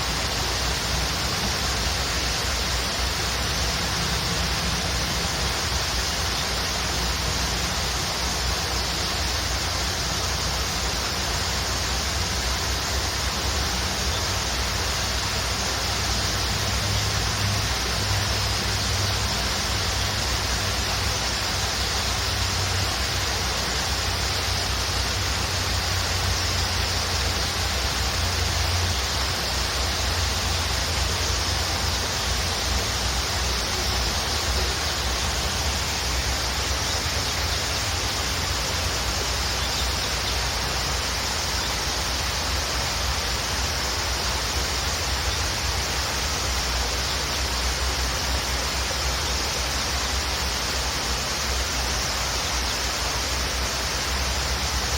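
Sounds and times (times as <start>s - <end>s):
waterfall roaring: 0.0s - 54.9s.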